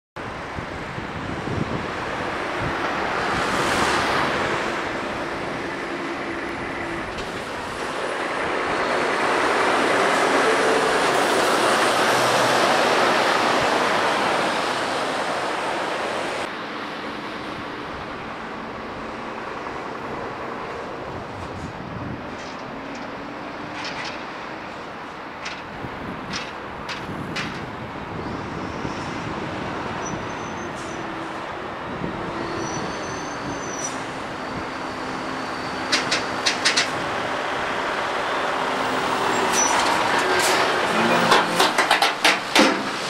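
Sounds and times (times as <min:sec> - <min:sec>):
lorries passing: 0:00.2 - 0:43.0.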